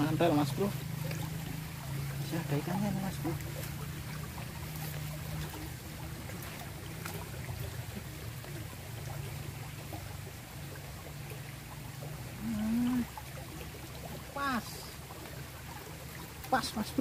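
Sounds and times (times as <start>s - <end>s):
stream babbling over rocks: 0.0s - 17.0s.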